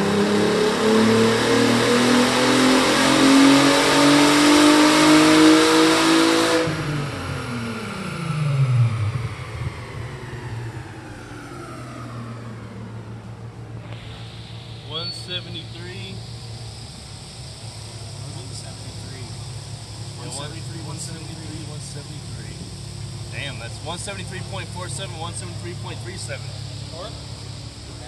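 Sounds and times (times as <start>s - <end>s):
car engine revving: 0.0s - 28.0s
drivetrain coasting whine: 0.0s - 28.0s.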